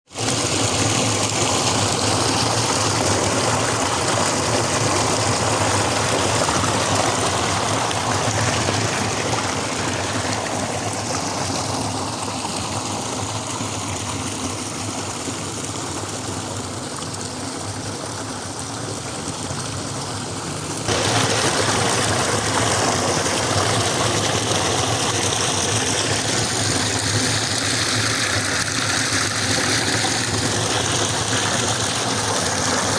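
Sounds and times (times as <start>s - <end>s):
small stream flowing: 0.0s - 32.9s.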